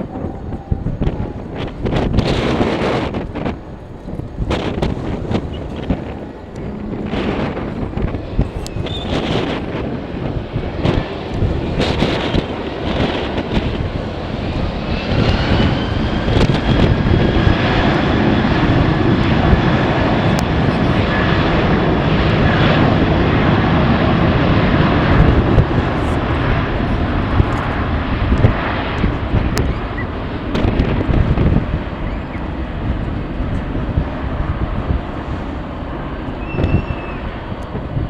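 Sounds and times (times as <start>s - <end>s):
jet engines with high whine: 0.0s - 38.0s
wind buffeting microphone: 0.0s - 38.0s.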